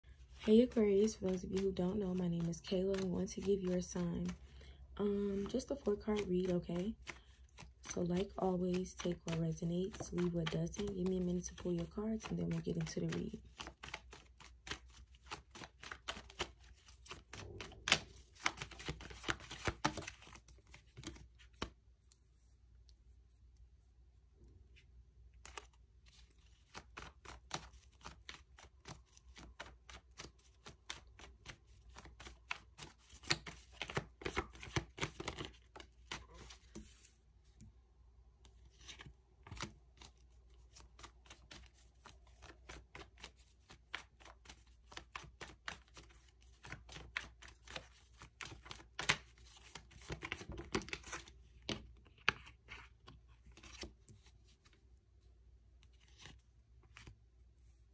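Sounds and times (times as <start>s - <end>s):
cards being shuffled: 0.1s - 22.2s, 25.4s - 37.7s, 38.4s - 54.8s, 55.8s - 57.2s.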